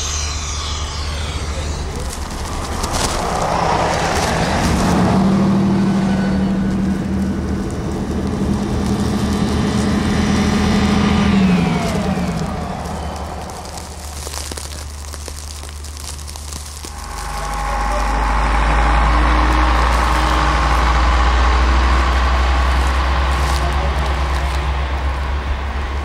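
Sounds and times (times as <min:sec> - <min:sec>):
train engine: 0:00.0 - 0:26.0
train wheels and snow rushing: 0:00.0 - 0:26.0.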